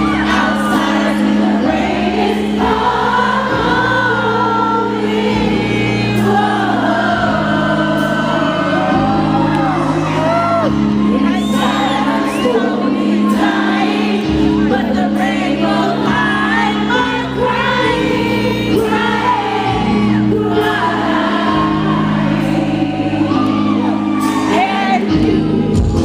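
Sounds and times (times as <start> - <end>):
person singing: 0.0 - 26.0.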